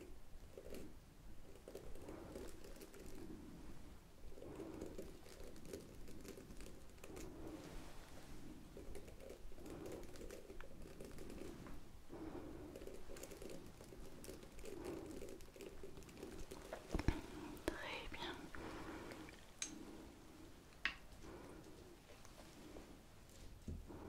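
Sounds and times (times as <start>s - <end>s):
soft hand rubbing: 0.6s - 24.0s.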